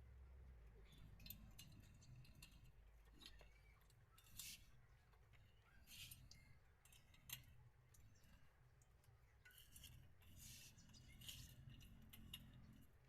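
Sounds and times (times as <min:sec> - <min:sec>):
faint clicks and clinks: 0:00.8 - 0:13.0.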